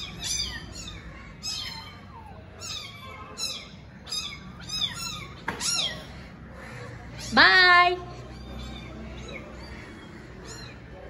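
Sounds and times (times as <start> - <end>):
kittens mewing: 0.0 - 11.0.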